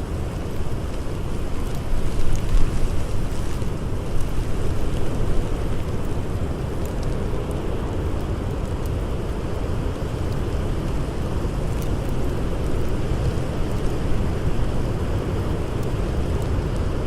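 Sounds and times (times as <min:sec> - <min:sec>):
blizzard wind blowing: 0:00.0 - 0:17.0
faint campfire crackles: 0:00.0 - 0:17.0.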